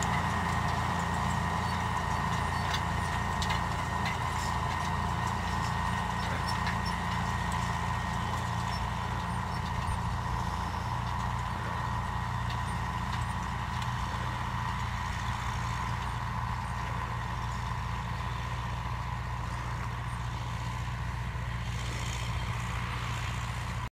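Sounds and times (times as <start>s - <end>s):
engine droning with whine: 0.0s - 23.9s.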